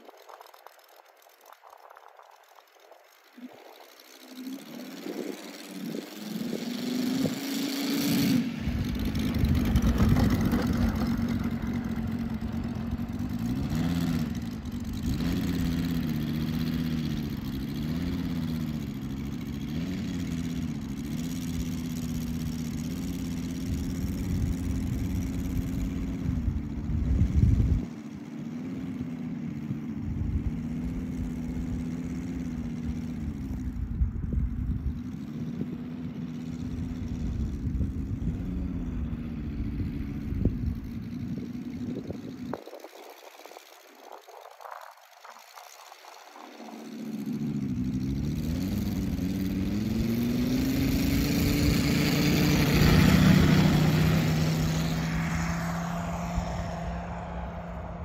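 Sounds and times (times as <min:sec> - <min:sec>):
model airplane radial engine running: 0:00.0 - 0:58.0.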